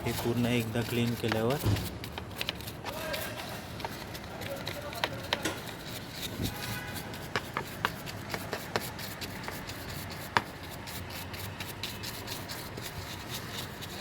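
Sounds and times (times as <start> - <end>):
brush scrubbing chain: 0.0 - 14.0.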